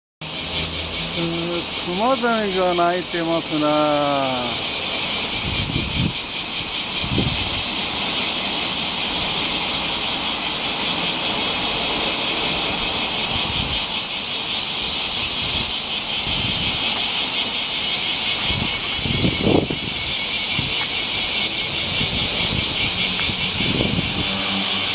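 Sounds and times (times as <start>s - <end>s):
cicada buzzing: 0.2s - 24.9s.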